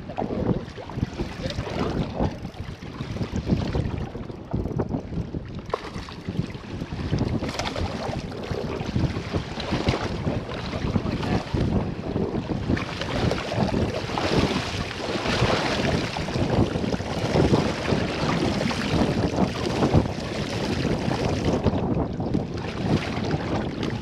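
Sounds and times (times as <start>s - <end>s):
choppy water: 0.0s - 24.0s
wind buffeting microphone: 0.0s - 24.0s.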